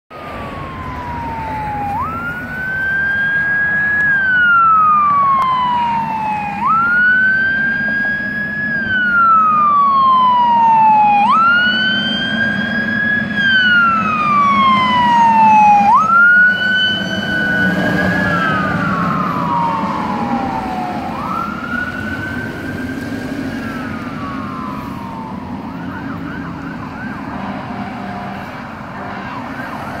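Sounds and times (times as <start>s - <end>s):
fire engine siren wailing: 0.1s - 30.0s
truck engine rumble: 0.1s - 30.0s
faster warbling siren: 0.2s - 30.0s.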